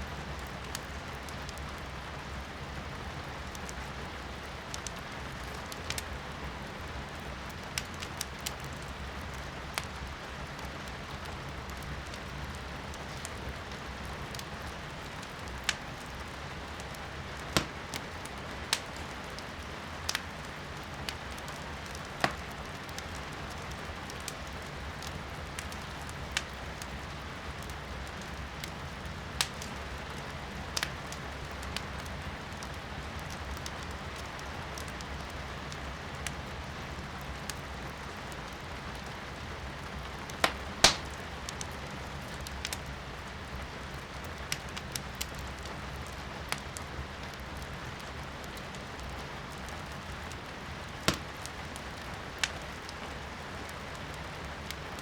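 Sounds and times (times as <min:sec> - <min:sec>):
firewood crackling and popping: 0:00.2 - 0:55.0.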